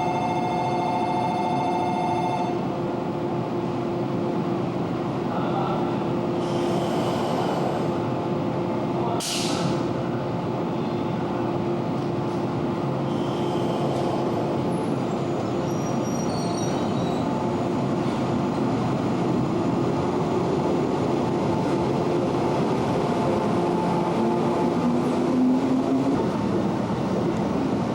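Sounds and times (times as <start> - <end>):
electric train rumbling: 0.0 - 27.9.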